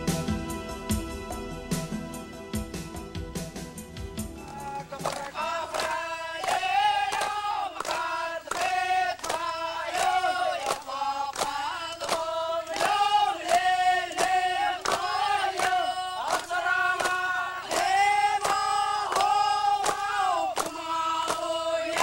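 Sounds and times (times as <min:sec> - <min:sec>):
group chanting in unison: 0:04.4 - 0:22.0.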